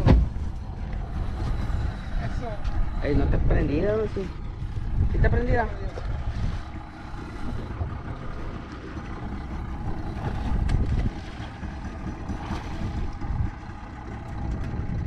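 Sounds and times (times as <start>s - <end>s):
wind and boat rumble: 0.0s - 15.0s.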